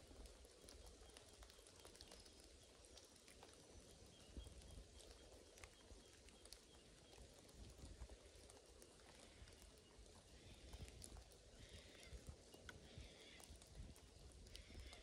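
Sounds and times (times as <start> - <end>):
small drip-like ticks: 0.0 - 15.0.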